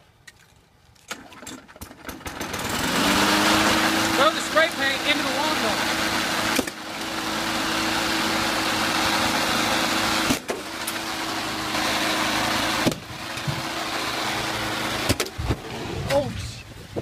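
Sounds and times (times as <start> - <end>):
lawn mower engine running: 1.1 - 16.3.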